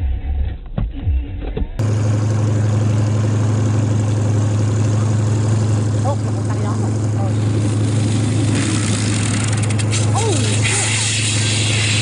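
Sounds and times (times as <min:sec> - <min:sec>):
propeller plane engine drone: 0:01.8 - 0:12.0.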